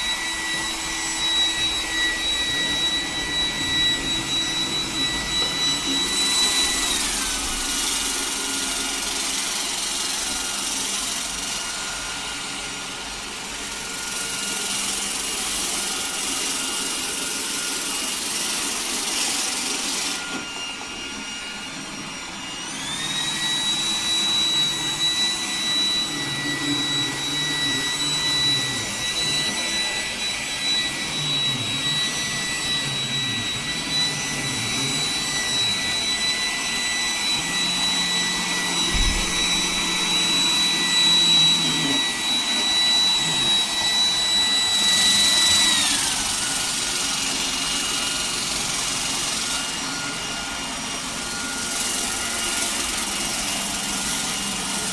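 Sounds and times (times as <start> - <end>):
robot vacuum whine: 0.0 - 54.9.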